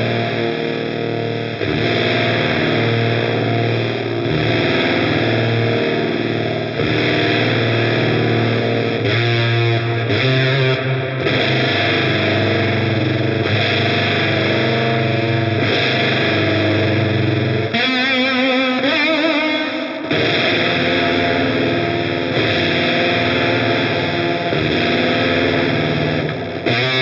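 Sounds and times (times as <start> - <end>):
fuzz electric guitar chords: 0.0 - 27.0.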